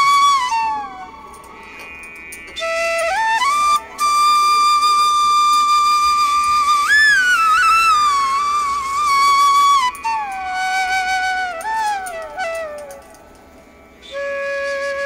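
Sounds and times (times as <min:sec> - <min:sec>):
flute-like melody: 0:00.0 - 0:15.0.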